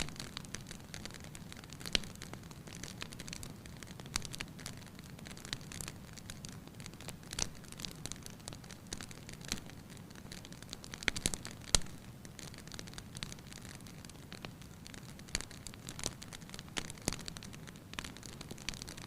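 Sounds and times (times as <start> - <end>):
fire pops and snaps: 0.0 - 19.0
wood fire crackling: 0.0 - 19.0.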